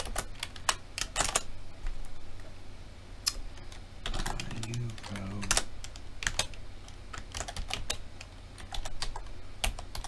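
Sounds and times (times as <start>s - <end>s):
keyboard typing: 0.0s - 2.0s, 3.3s - 10.0s.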